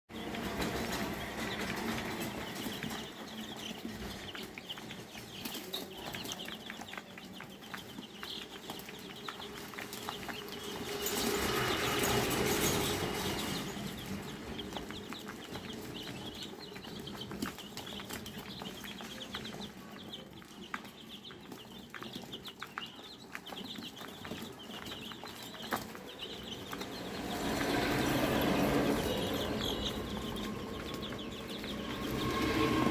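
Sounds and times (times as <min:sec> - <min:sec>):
chicks peeping: 0:00.1 - 0:32.9.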